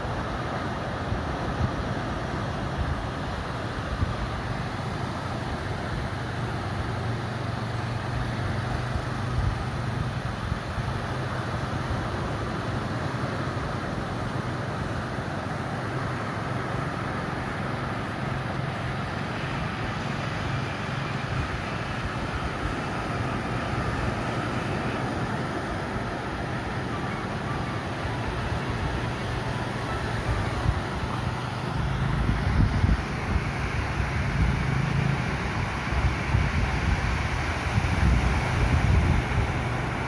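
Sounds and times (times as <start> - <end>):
waves breaking on beach: 0.0 - 40.0.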